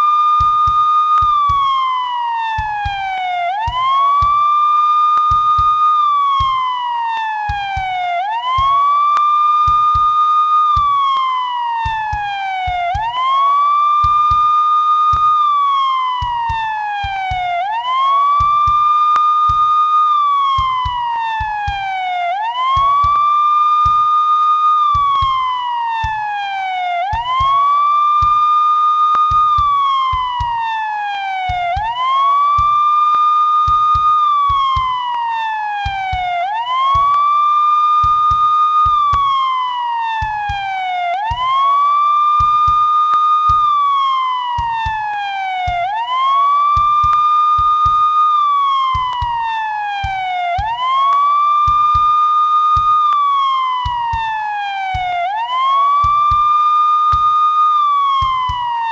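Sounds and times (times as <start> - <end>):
police siren wailing: 0.0 - 58.9.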